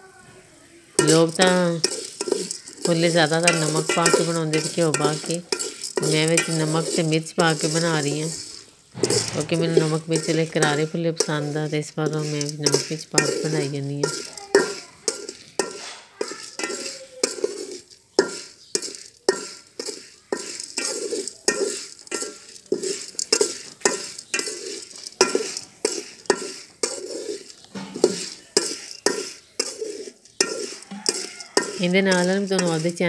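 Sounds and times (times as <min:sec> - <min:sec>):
kernels rustling: 0:00.0 - 0:33.0
metal spoon scraping a pot: 0:01.0 - 0:33.0.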